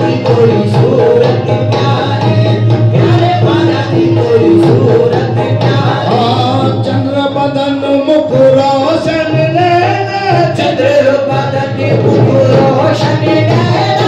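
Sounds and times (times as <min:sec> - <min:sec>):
harmonium: 0:00.0 - 0:14.0
men singing: 0:00.0 - 0:14.0.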